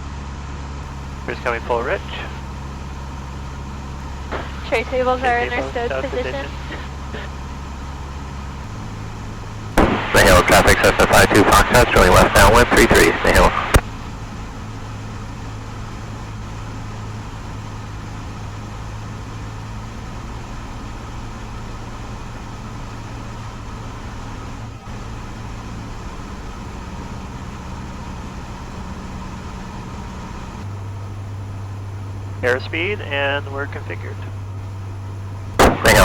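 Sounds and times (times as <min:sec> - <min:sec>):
airplane engine and propeller droning: 0:00.0 - 0:36.0.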